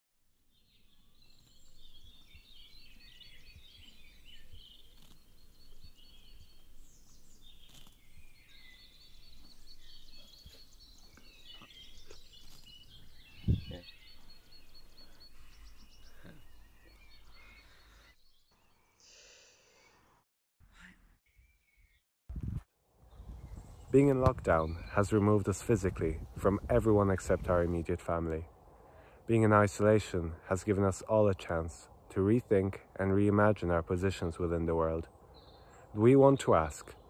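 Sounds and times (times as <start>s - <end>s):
birds chirping and singing: 0.5s - 19.0s, 23.0s - 28.4s, 29.5s - 37.0s.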